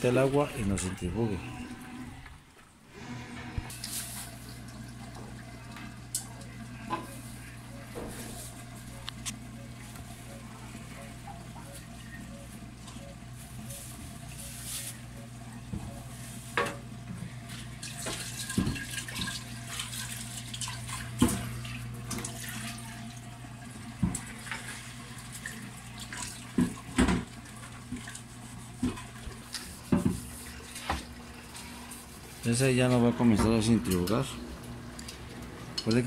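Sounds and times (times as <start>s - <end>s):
drain pump humming: 0.0s - 36.0s.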